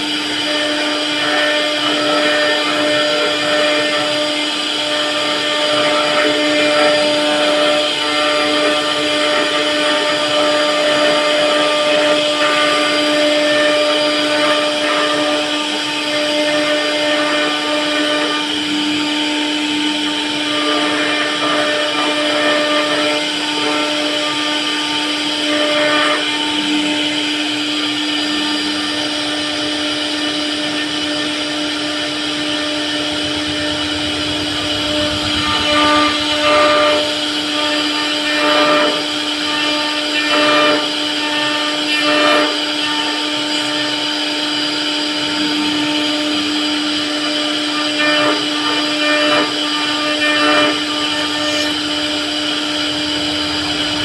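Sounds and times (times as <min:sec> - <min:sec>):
router spindle high-pitched whine: 0:00.0 - 0:54.0.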